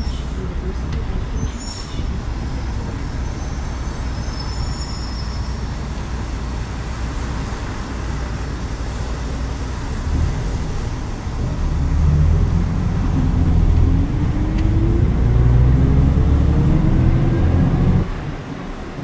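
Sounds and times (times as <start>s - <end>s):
bus engine and tyres rumbling: 0.0s - 19.0s.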